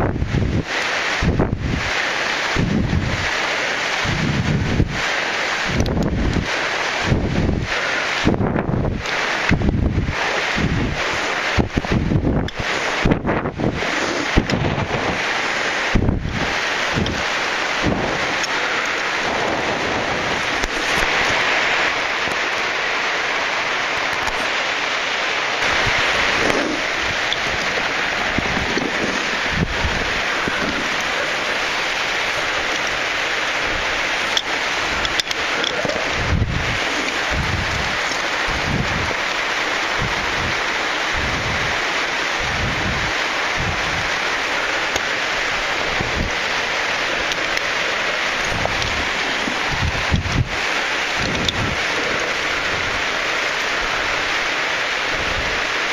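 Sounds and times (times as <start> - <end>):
wind buffeting microphone: 0.0 - 55.8
waterfall rushing: 0.0 - 55.9.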